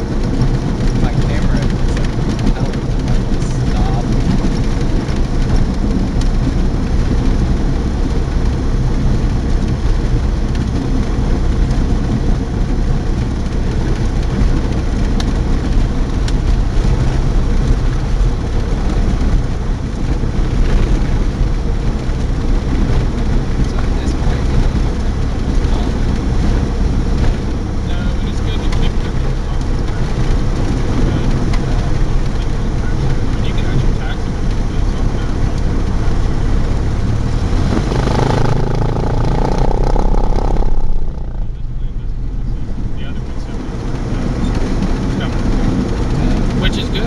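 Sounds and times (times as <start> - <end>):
propeller plane engine droning: 0.0 - 47.0.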